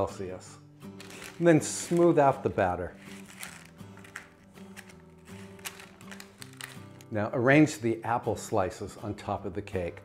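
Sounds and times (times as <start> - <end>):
soft background music chords: 0.0 - 10.0.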